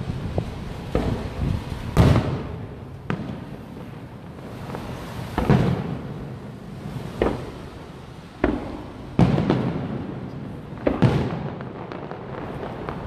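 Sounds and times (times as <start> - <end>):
distant firework booms: 0.0 - 7.8, 8.4 - 13.0.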